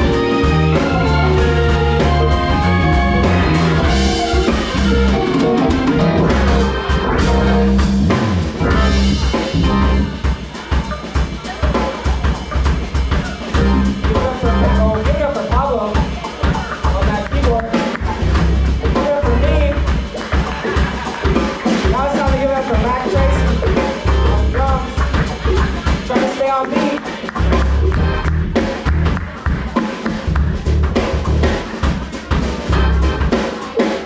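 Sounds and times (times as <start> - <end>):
drum kit hits: 0.0 - 26.2, 27.3 - 34.0
live band playing: 0.0 - 34.0.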